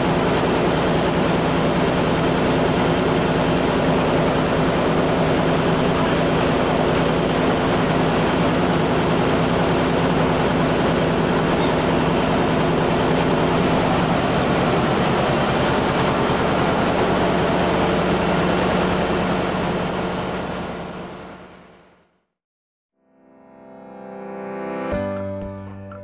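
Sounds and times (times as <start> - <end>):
engine-room machinery humming: 0.0 - 22.0.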